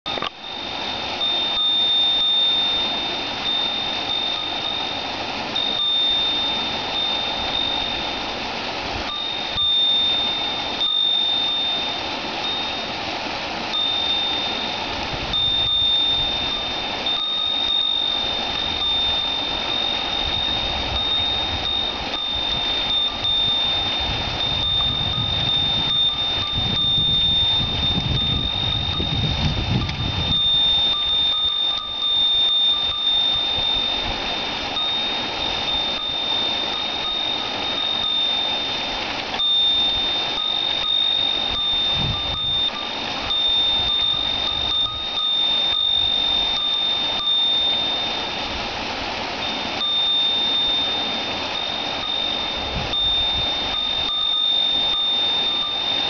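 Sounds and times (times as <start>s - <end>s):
wind chime ringing: 0.1s - 8.3s, 9.1s - 13.0s, 13.7s - 48.5s, 49.4s - 56.0s
stream water rushing over weir: 0.1s - 56.0s.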